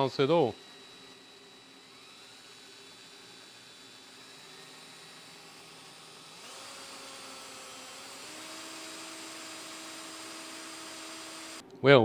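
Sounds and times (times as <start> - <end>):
cordless drill whining: 0.0 - 11.6.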